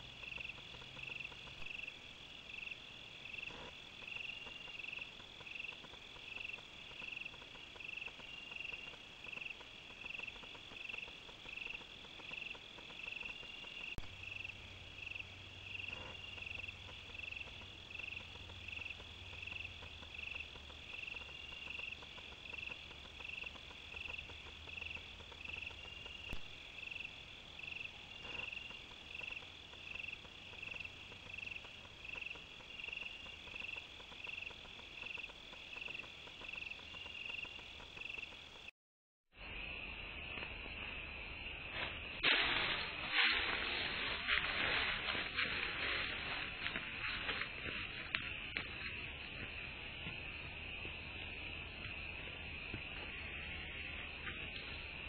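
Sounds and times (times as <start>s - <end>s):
crickets chirping: 0.0s - 38.7s, 39.4s - 55.0s.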